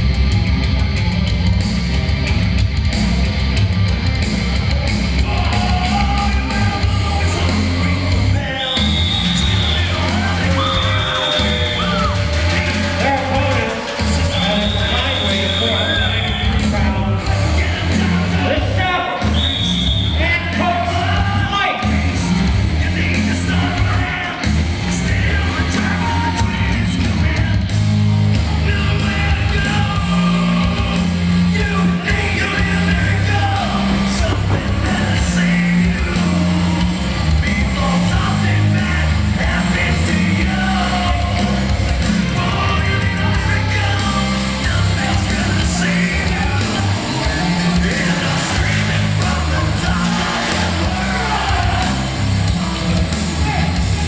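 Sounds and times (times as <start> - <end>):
heavy bass line: 0.0 - 54.0
loud music with singing: 0.0 - 54.0.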